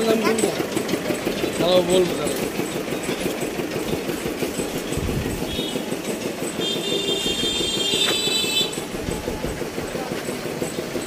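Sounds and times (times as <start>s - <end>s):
small engine rattling: 0.0s - 11.0s.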